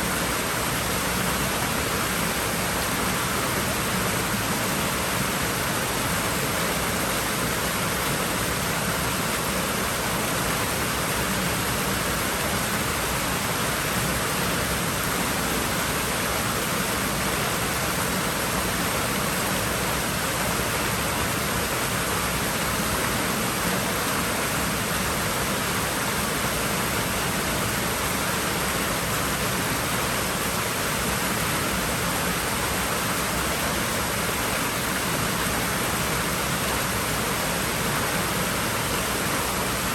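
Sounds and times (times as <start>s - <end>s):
water running in a pool: 0.0s - 39.9s.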